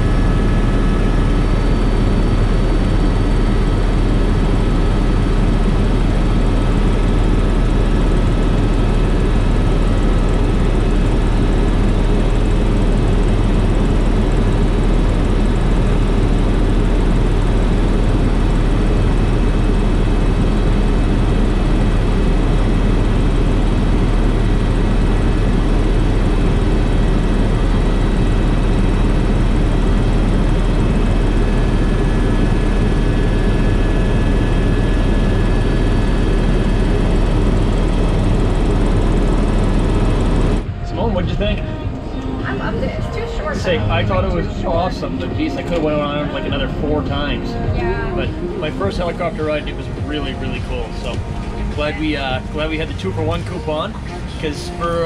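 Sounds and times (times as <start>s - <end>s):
helicopter drone: 0.0s - 55.0s.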